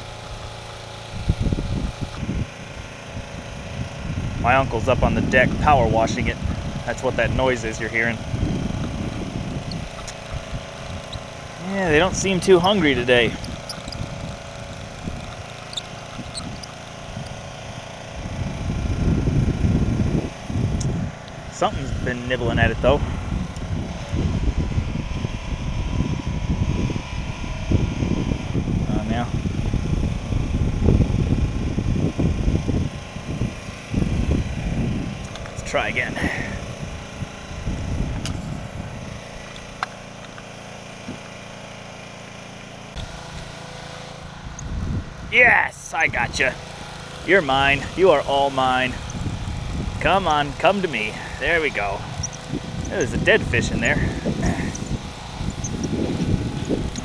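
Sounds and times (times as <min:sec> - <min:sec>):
pressure washer humming: 0:00.0 - 0:26.1, 0:27.3 - 0:57.0
wind buffeting microphone: 0:01.1 - 0:39.4, 0:44.4 - 0:57.0.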